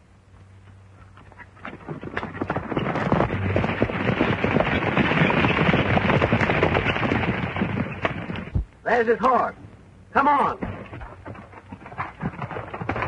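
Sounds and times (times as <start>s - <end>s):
horses galloping hoofbeats: 0.6s - 9.6s, 10.2s - 13.0s.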